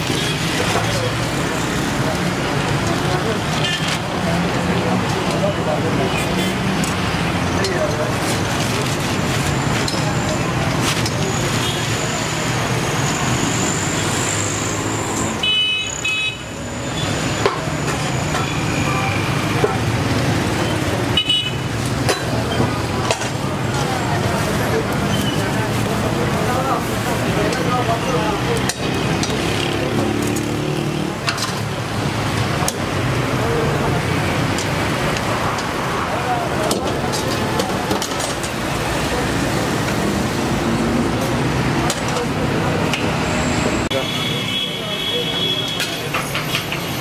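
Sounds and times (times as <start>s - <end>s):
street traffic noise: 0.0s - 47.0s.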